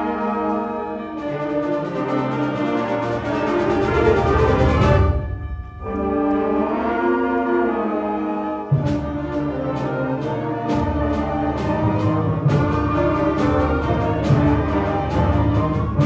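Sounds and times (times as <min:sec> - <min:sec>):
concert band playing: 0:00.0 - 0:16.0
percussion strikes: 0:01.2 - 0:08.0, 0:08.7 - 0:16.0.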